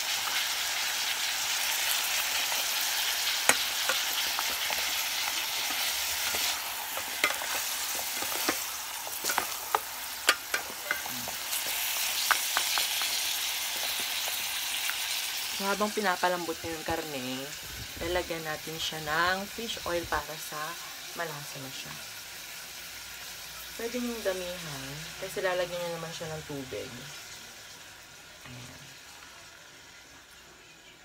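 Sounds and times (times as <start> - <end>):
meat sizzling in a pot: 0.0 - 31.0.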